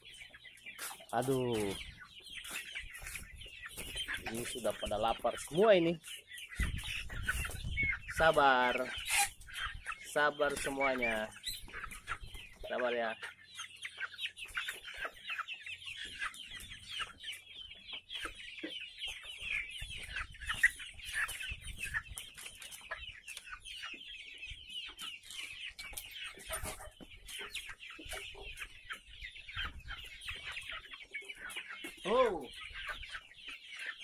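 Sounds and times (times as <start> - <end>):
chicks peeping and clucking: 0.0 - 34.0.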